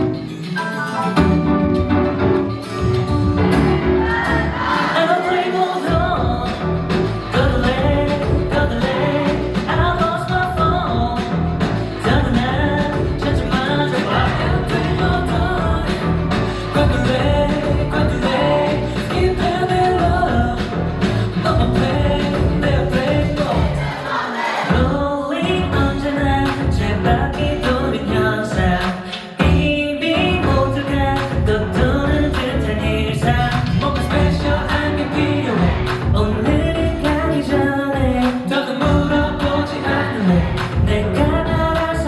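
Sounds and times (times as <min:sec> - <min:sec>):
pop song through pa system: 0:00.0 - 0:42.0
person singing: 0:02.4 - 0:42.0.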